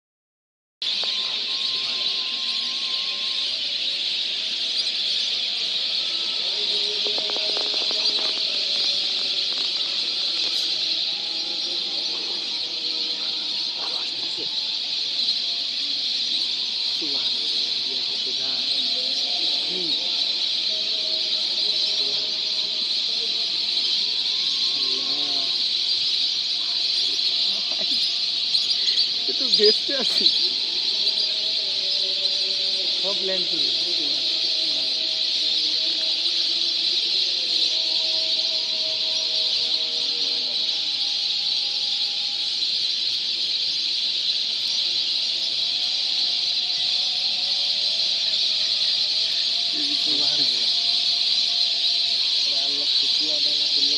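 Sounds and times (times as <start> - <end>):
flock of waterbirds calling: 0.8 - 53.9.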